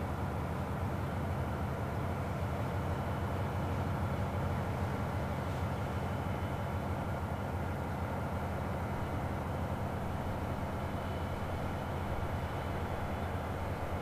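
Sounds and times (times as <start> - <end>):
diesel train engine drone: 0.0 - 14.0.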